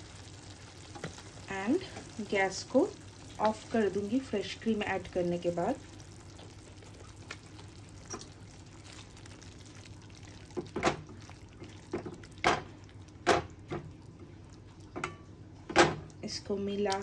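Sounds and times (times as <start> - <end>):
faint steady background noise: 0.0 - 17.0.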